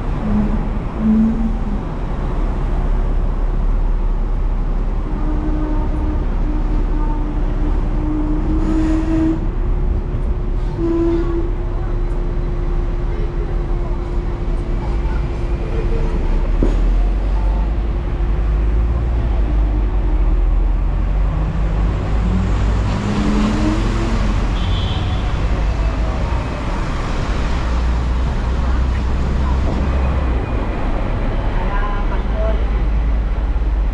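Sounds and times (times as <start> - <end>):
tram rumbling: 0.0 - 33.9.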